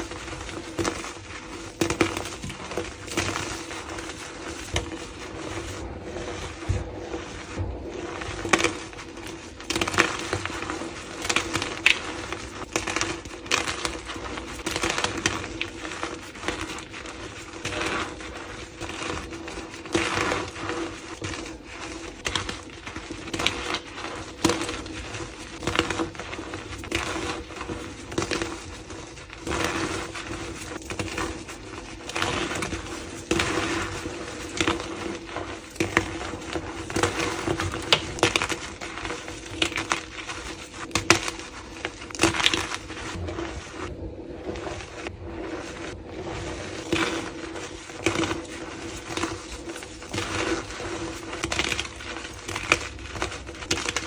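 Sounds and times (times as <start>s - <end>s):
chalk crunching and cracking: 0.0s - 54.0s.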